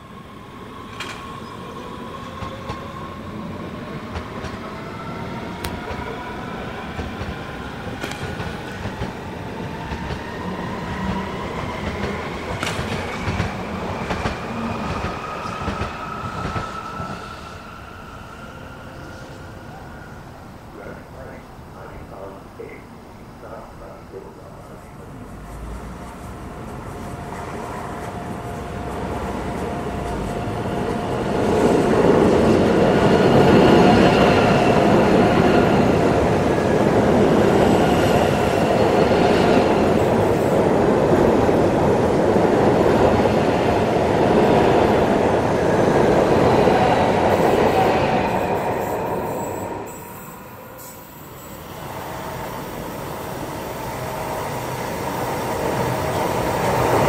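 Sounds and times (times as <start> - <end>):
approaching train rumble: 0.0 - 57.0
train wheels rumbling on rail: 0.7 - 19.8, 23.4 - 57.0.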